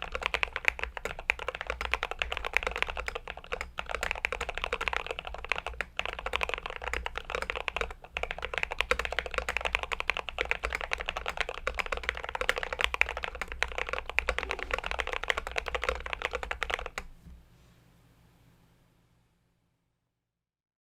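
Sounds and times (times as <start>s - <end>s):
mechanical keyboard typing: 0.0s - 17.1s.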